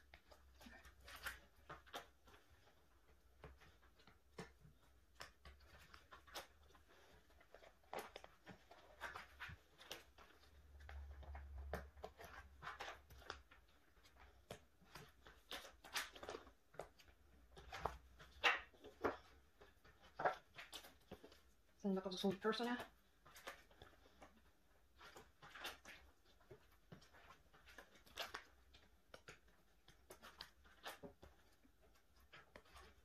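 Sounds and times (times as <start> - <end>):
plastic sleeves crinkling: 0.0 - 33.0.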